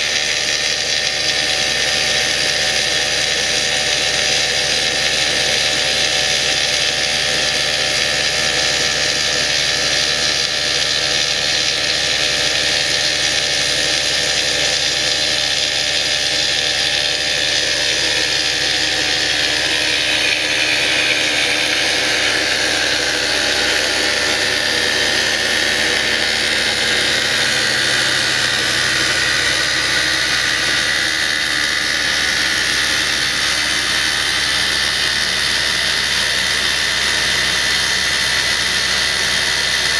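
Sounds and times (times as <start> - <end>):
rock drill boring into rock: 0.0 - 39.9.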